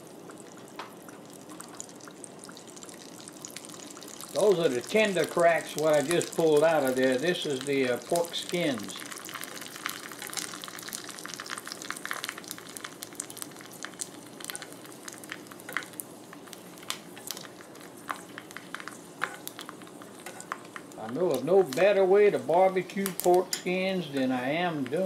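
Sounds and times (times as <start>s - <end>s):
pork skins sizzling in grease: 0.0s - 25.0s
sharp crackles of frying: 0.0s - 25.0s.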